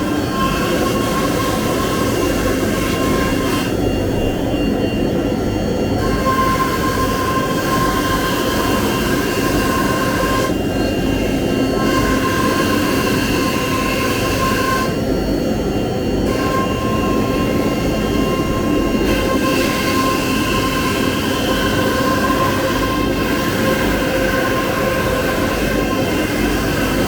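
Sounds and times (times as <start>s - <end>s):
router spindle high whine: 0.0s - 27.0s.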